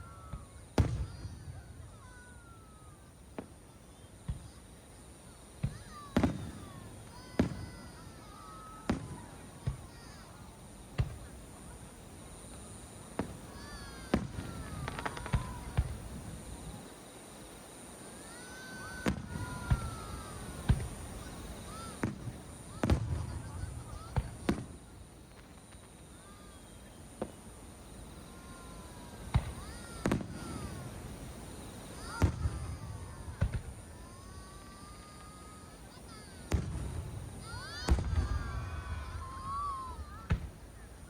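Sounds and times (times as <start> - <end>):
fireworks bangs: 0.0 - 41.0
whistling fireworks: 0.0 - 41.0.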